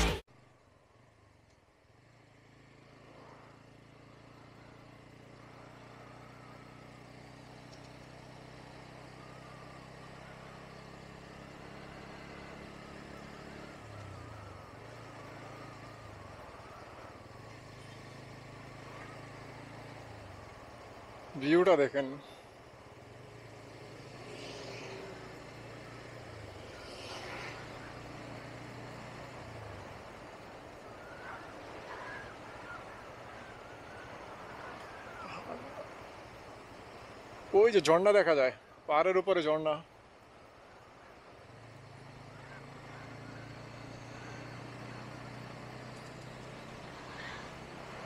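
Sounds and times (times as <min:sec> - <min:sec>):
motorcycle engine humming: 0:00.0 - 0:48.0
road and wind noise: 0:00.0 - 0:48.0.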